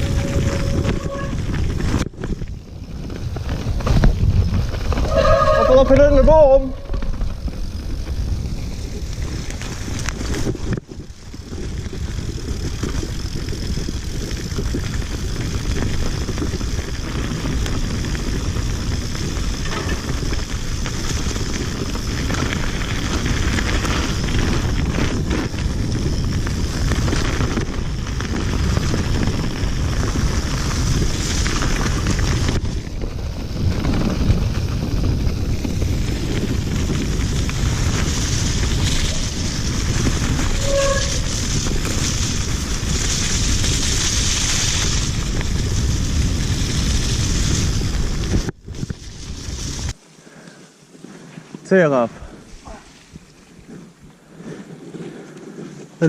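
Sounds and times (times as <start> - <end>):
wind buffeting microphone: 0.0 - 50.0
bike tyre rumble on trail: 0.0 - 56.0.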